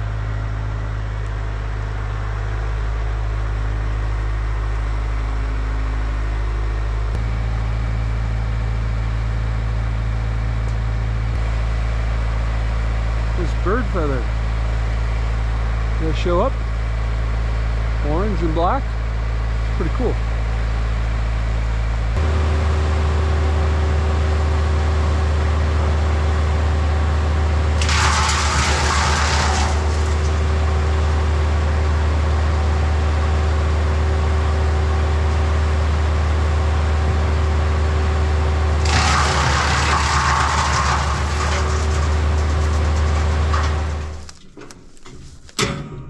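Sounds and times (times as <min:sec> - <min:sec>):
wood chipper engine running: 0:00.0 - 0:45.5.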